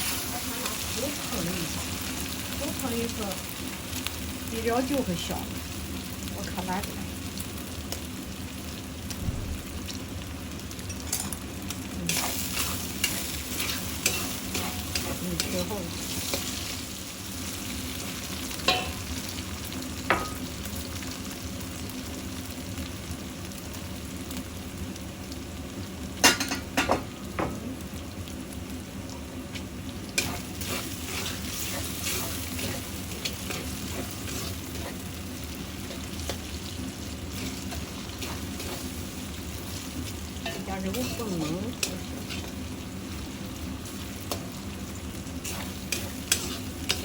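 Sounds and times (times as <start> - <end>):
eggplant sizzling in oil: 0.0 - 47.0.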